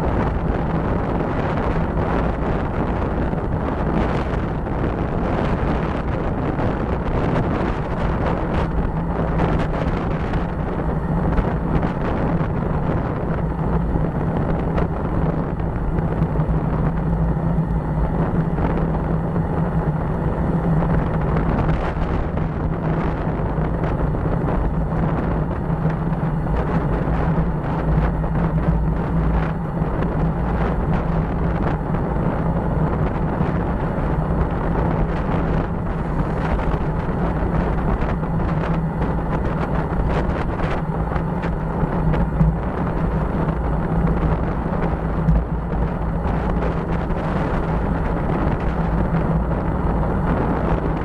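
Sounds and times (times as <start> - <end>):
low steady drone: 0.0 - 51.0
wind buffeting microphone: 0.0 - 51.0.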